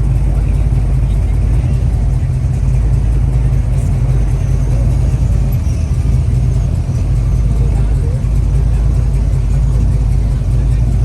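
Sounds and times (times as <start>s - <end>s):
car engine running low speed: 0.0s - 11.0s.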